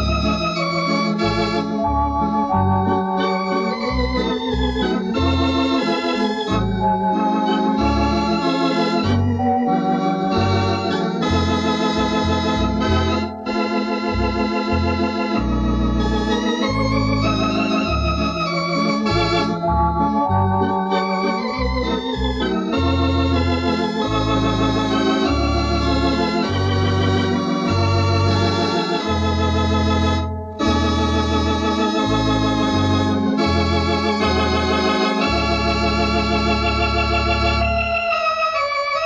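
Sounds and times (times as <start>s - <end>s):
electronic organ playing chords: 0.0s - 39.0s.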